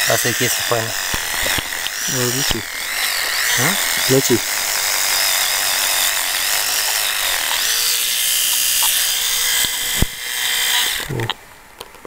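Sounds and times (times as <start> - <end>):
electric toothbrush buzzing: 0.0 - 11.3.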